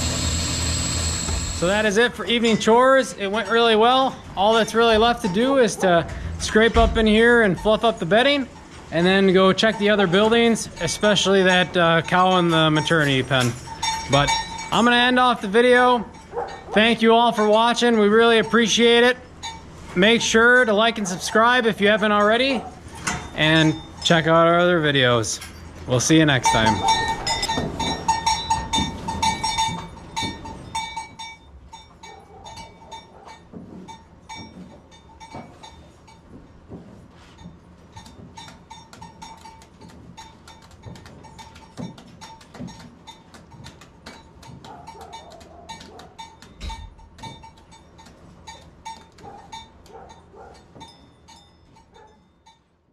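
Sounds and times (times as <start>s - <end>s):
metal chains clinking: 1.1s - 21.2s, 22.1s - 36.4s, 37.3s - 52.6s.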